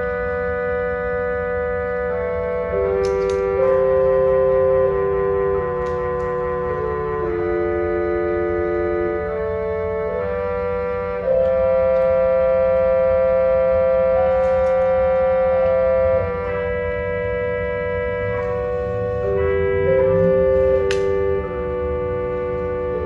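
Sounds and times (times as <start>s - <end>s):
church organ chords: 0.0s - 23.0s.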